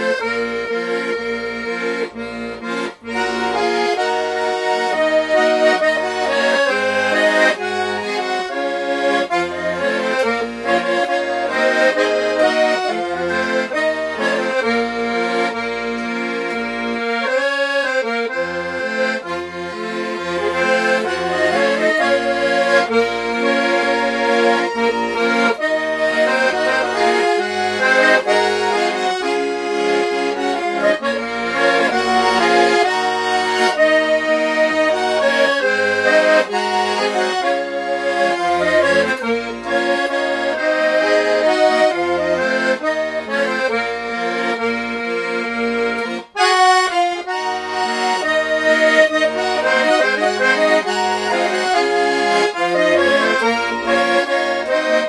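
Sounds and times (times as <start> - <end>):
button accordion playing: 0.0 - 55.0.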